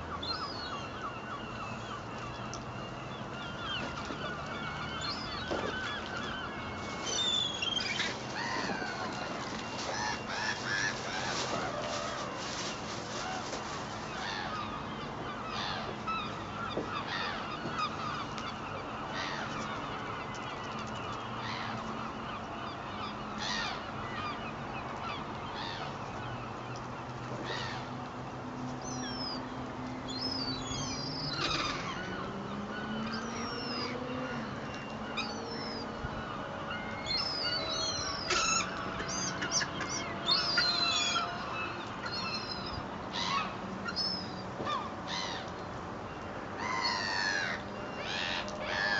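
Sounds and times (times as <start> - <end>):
seagulls calling: 0.0 - 48.9.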